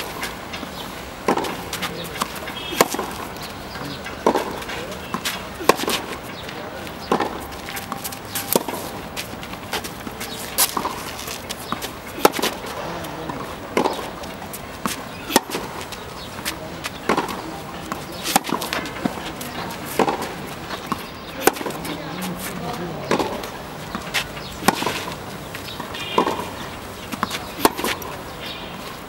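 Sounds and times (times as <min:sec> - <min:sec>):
racket hitting tennis ball: 0:00.0 - 0:29.0.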